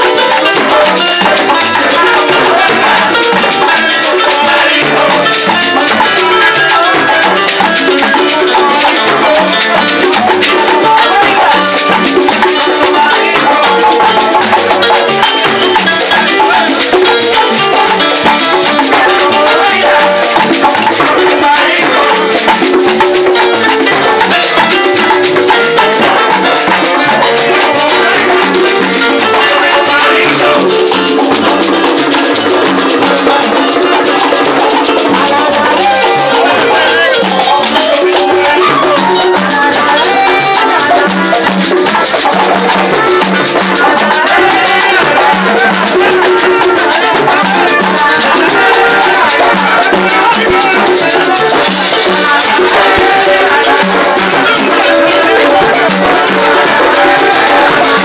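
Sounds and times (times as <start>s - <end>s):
congas and timbales: 0.0s - 58.0s
salsa band playing: 0.0s - 58.0s.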